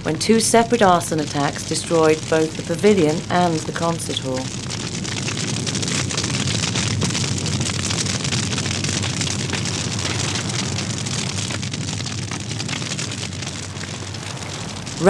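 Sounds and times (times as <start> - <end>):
large fire crackling: 0.0 - 15.0.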